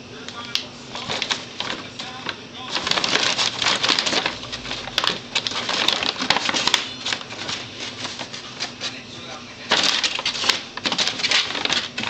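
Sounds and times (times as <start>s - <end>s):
paper bag crinkling: 0.4s - 12.0s.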